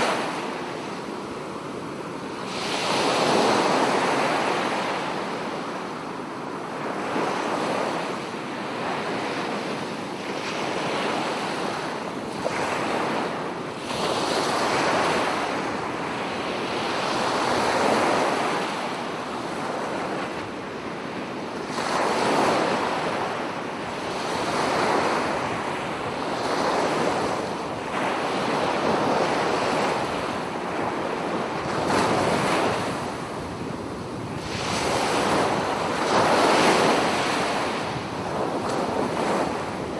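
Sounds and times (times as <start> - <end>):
ocean waves breaking: 0.0 - 5.7, 6.7 - 39.9.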